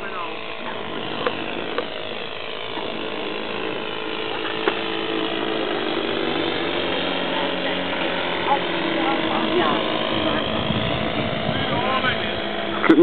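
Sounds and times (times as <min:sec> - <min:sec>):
model aeroplane engine buzzing: 0:00.0 - 0:13.0.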